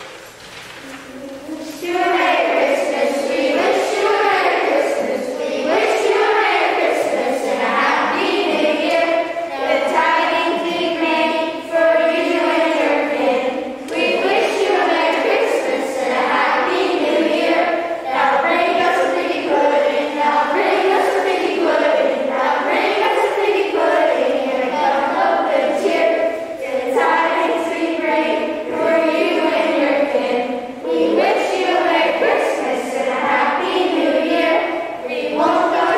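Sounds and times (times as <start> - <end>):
children's choir singing: 0.0 - 35.9.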